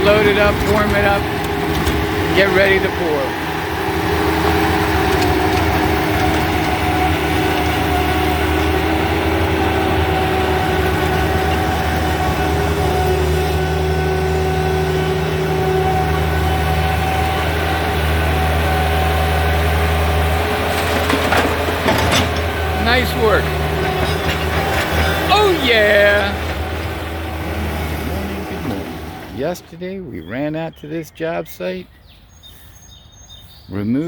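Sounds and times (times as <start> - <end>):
construction machine engine humming: 0.0 - 32.6.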